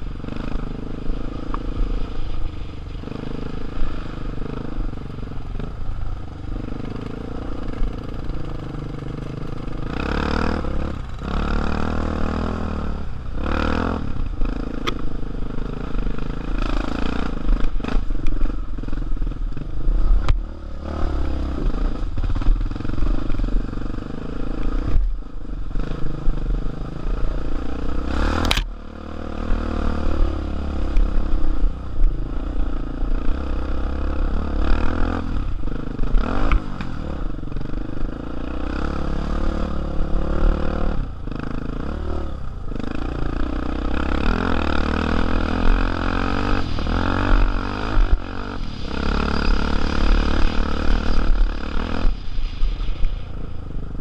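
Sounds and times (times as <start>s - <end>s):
dirt bike engine revving: 6.4s - 52.6s.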